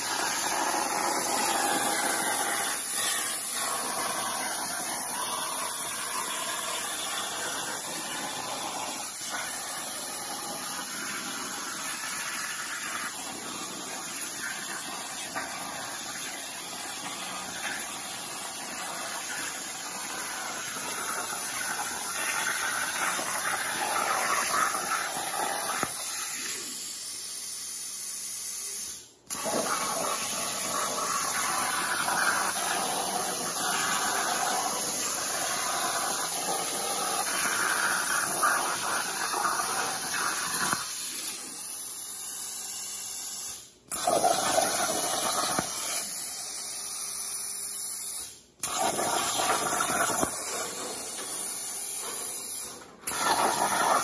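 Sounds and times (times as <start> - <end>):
plasma torch cutting metal hiss: 0.0 - 27.0, 28.7 - 54.0.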